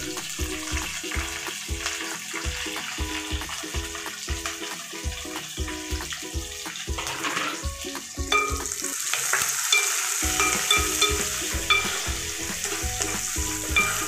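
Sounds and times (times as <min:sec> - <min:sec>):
onions sizzling in hot oil: 0:00.0 - 0:14.0.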